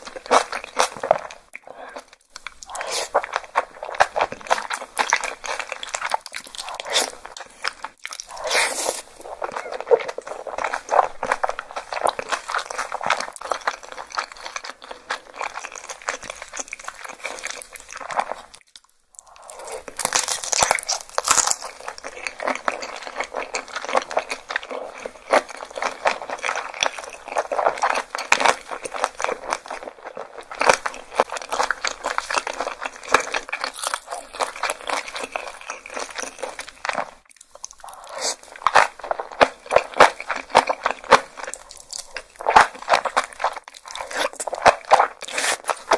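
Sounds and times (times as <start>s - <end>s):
crunchy biting and chewing: 0.0s - 45.9s.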